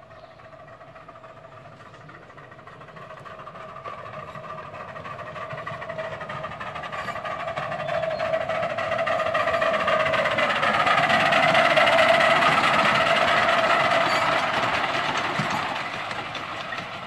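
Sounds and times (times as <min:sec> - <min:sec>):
miniature locomotive running whine: 0:00.0 - 0:17.0.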